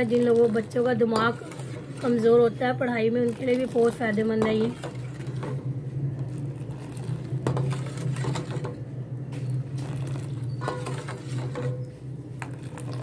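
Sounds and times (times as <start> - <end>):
ladle scraping steel pan: 0.0 - 2.5, 3.1 - 8.8, 9.8 - 13.0.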